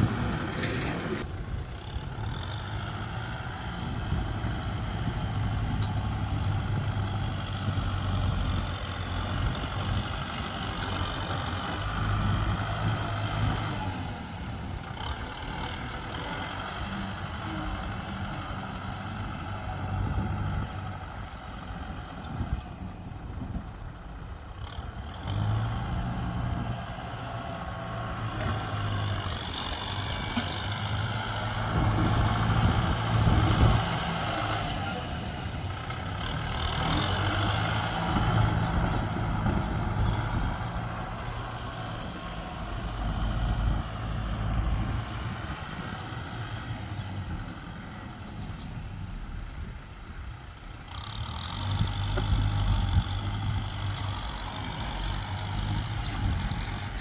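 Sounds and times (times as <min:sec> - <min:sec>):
heavy diesel engines labouring: 0:00.0 - 0:57.0.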